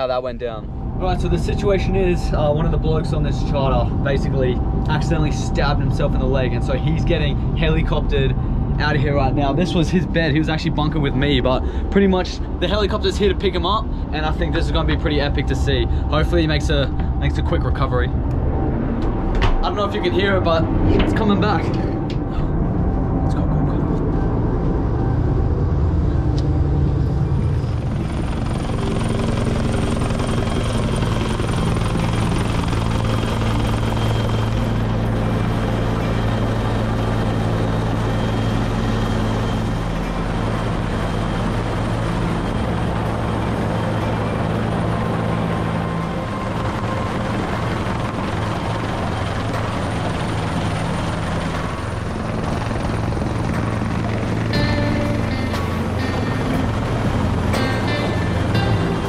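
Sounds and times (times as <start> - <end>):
helicopter hovering overhead: 0.0 - 59.0.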